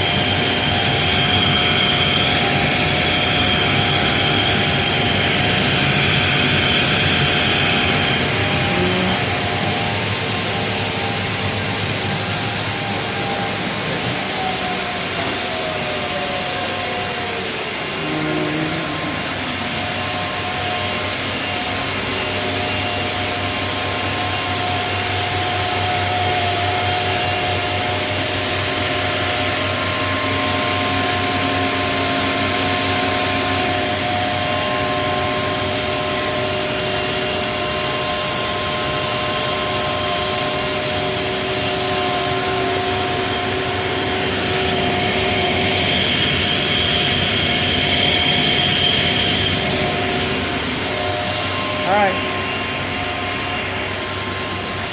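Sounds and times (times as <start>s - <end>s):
router machine hissing and whining: 0.0s - 54.9s.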